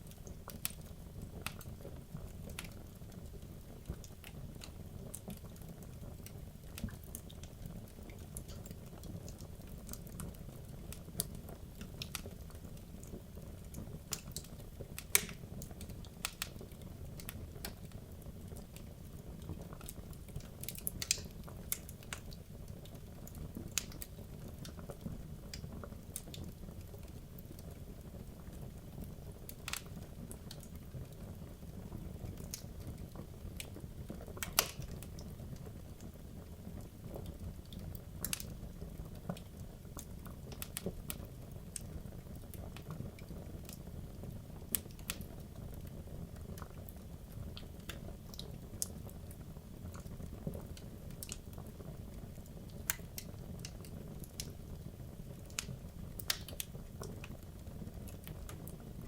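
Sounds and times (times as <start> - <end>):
logs burning in a fireplace: 0.0 - 59.0.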